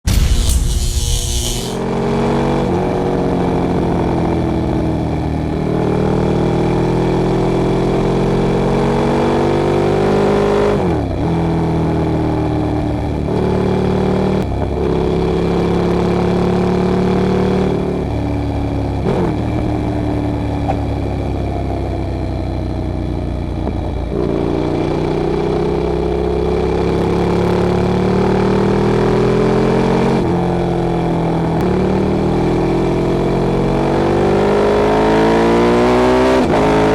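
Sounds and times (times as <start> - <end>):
motorcycle engine shifting gears: 1.1 - 36.9.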